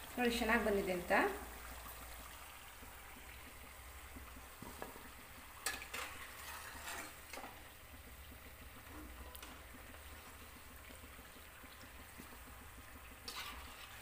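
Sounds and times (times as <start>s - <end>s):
oil frying hiss: 0.0s - 14.0s.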